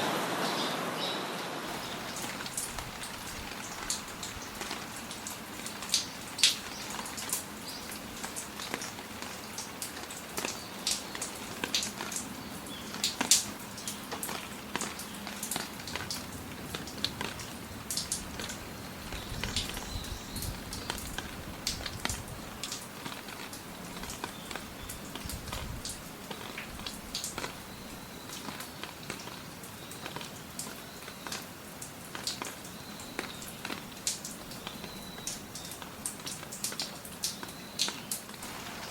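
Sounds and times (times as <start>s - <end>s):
rain hissing: 0.0s - 38.9s
raindrops ticking close by: 1.7s - 38.9s.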